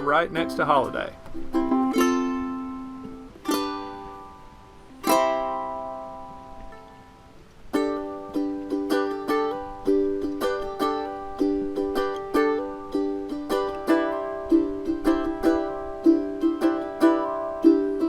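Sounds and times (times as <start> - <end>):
plucked string instrument chords: 0.0 - 18.0.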